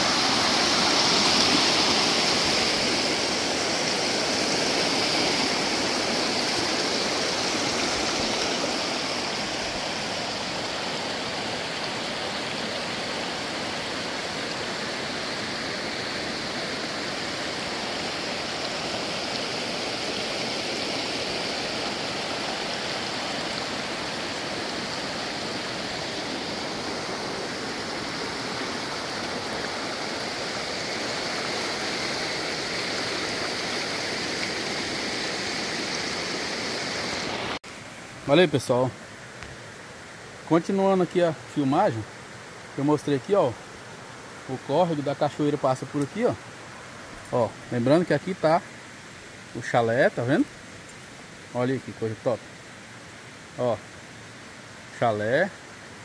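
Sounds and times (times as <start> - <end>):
waterfall rushing water: 0.0 - 56.0.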